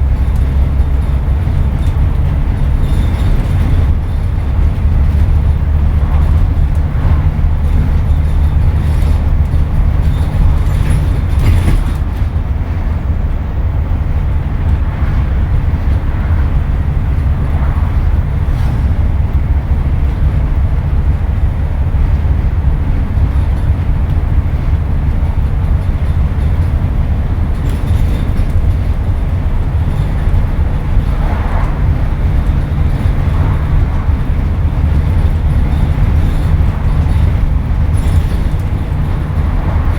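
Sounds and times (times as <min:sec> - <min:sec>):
bus diesel engine drone: 0:00.0 - 0:39.9
faint rattles: 0:00.0 - 0:39.9.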